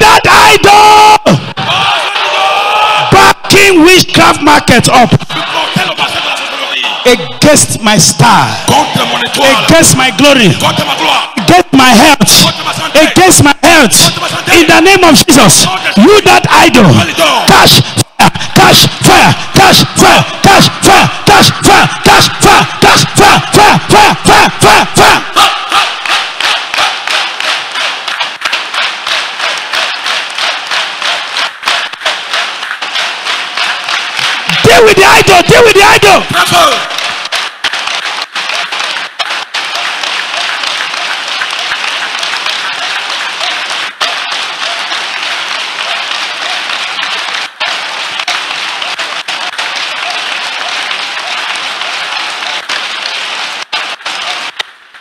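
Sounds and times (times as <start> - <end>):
hands clapping fast: 0.0 - 1.4, 11.4 - 54.8
loud fervent prayer: 0.0 - 54.6.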